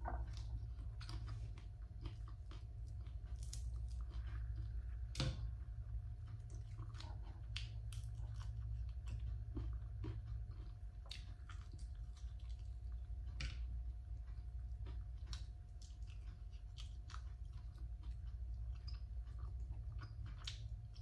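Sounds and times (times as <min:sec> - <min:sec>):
person chewing and crunching: 0:00.0 - 0:21.0
steady low hum: 0:00.0 - 0:21.0.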